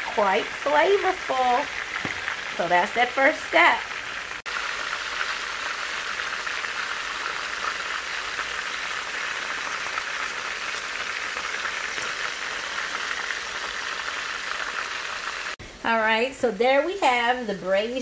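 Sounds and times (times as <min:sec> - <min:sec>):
chicken sizzling in hot oil: 0:00.0 - 0:15.6.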